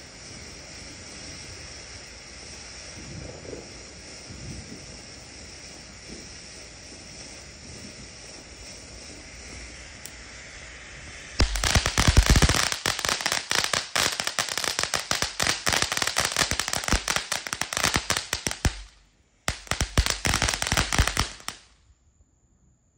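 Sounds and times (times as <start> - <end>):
firework crackling pops: 0.0 - 21.9.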